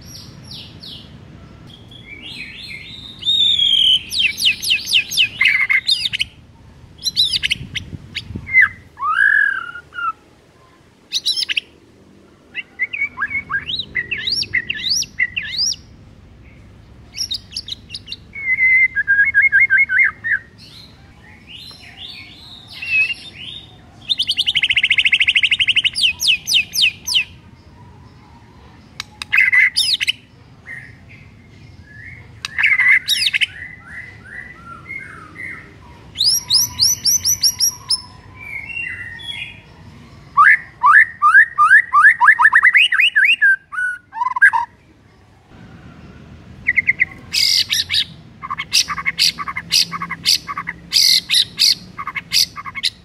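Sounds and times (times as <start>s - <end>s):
songbird singing trills and whistles: 0.0s - 10.2s, 11.1s - 11.8s, 12.5s - 44.8s, 46.6s - 53.0s.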